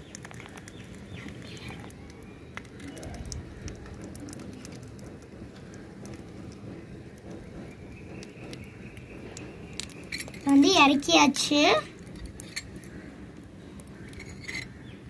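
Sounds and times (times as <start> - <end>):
fire popping and crackling: 0.0 - 15.0
liquid boiling and bubbling: 0.0 - 15.0.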